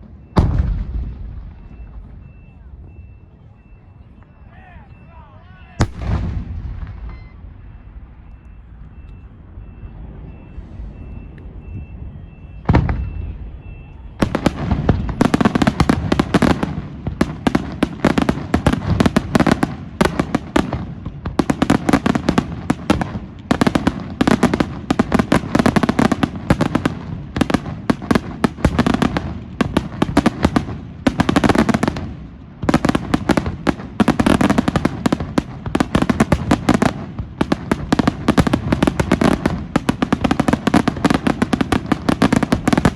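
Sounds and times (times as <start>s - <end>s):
fireworks bangs and crackles: 0.0s - 4.9s, 5.7s - 42.9s.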